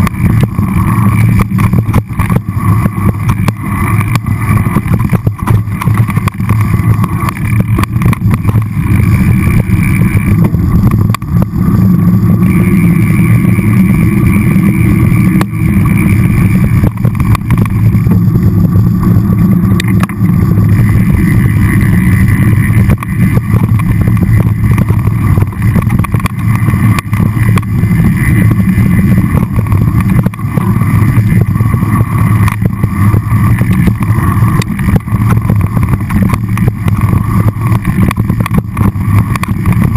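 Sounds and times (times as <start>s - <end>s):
bike knocking and rattling: 0.0s - 39.9s
wind rumble on microphone: 0.0s - 39.9s.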